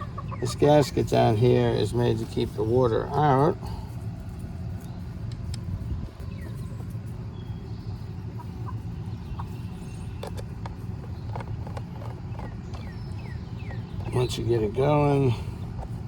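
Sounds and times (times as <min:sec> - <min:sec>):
chickens clucking: 0:00.0 - 0:03.6, 0:04.2 - 0:16.0
steady low rumble: 0:00.0 - 0:16.0.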